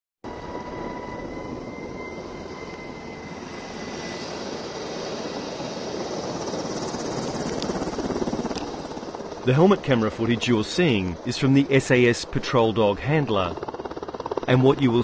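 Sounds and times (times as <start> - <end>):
helicopter rotor chop: 0.3 - 15.0.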